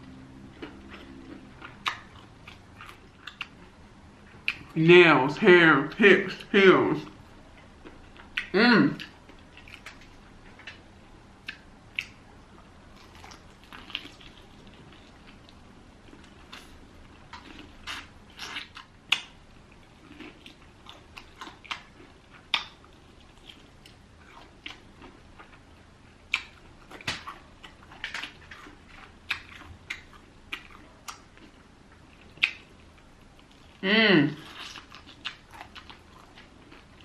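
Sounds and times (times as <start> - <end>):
chewing crispy fried chicken: 0.0 - 4.8, 5.9 - 10.8, 11.4 - 37.0.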